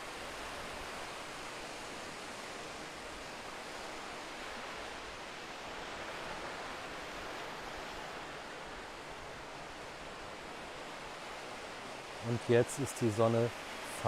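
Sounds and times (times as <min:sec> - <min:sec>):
small waves on sandy beach: 0:00.0 - 0:14.0.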